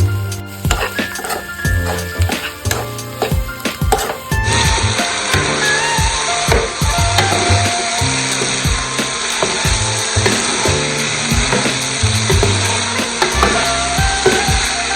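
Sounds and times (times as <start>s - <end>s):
background music with bass: 0.0s - 14.9s
chicken sizzling in a pan: 0.0s - 14.9s
spatula scraping a pan: 0.4s - 14.7s.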